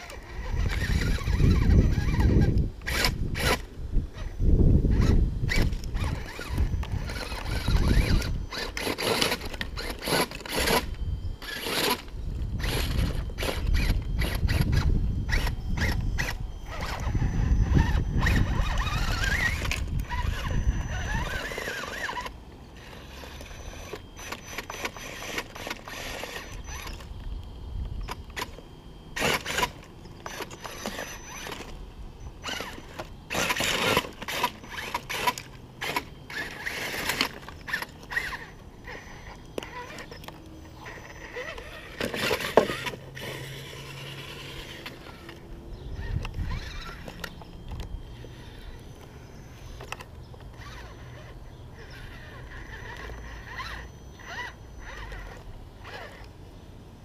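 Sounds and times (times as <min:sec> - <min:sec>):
rc car motor whining: 0:00.0 - 0:57.0.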